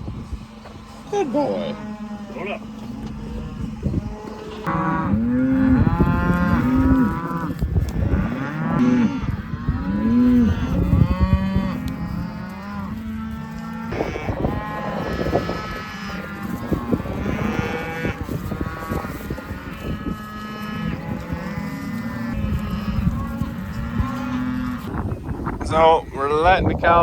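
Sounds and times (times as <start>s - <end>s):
cattle mooing: 0.0s - 25.1s.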